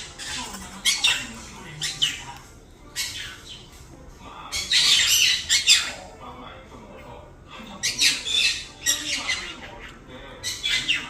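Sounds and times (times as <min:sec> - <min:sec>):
parrots squawking: 0:00.0 - 0:03.9, 0:04.5 - 0:06.2, 0:07.6 - 0:11.0.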